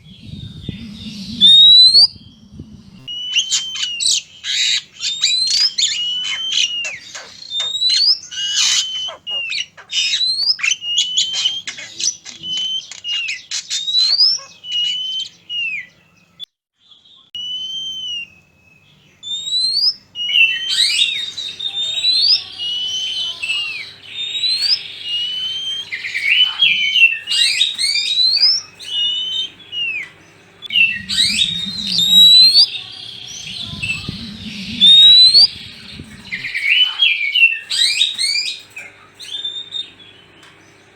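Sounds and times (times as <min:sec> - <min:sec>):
bird harsh chattering: 0:00.0 - 0:15.8, 0:20.2 - 0:40.0
birds singing whistled notes: 0:00.0 - 0:40.9.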